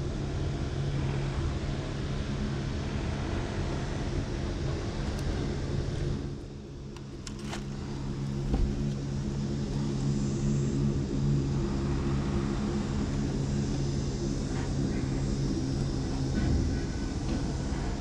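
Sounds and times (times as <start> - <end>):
engine humming: 0.9 - 18.0.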